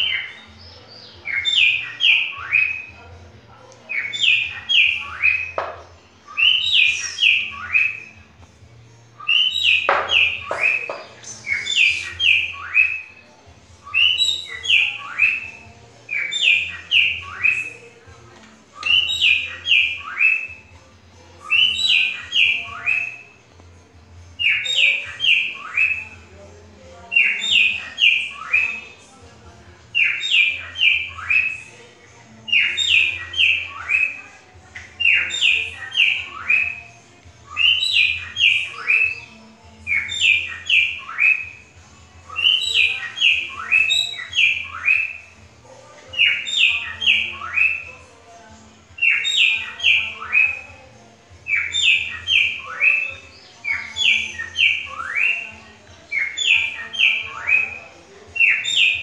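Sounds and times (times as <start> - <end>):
cockatiel whistling song: 0.0 - 3.0, 3.9 - 8.3, 9.2 - 17.8, 18.8 - 20.7, 21.4 - 23.4, 24.4 - 26.2, 27.1 - 28.9, 29.9 - 31.7, 32.5 - 45.4, 46.1 - 48.1, 49.0 - 59.0.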